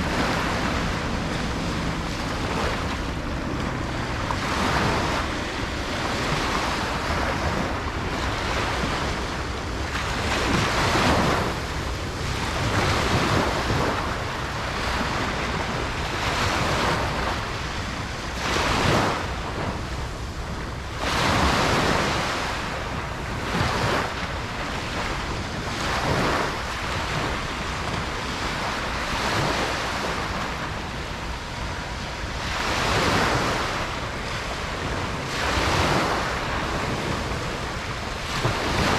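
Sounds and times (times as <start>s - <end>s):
waves crashing on beach: 0.0s - 38.9s
wind on microphone: 0.0s - 38.9s.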